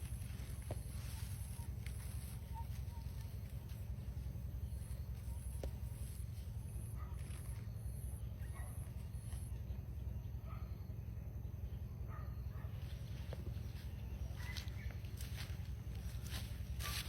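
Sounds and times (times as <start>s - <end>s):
high buzzing chirp: 0.0s - 17.0s
steady low rumble: 0.0s - 17.0s.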